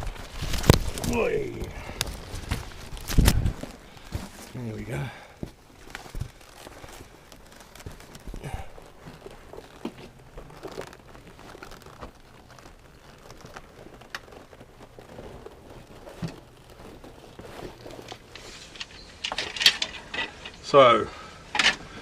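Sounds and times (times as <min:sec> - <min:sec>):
gear rustling: 0:00.0 - 0:22.0.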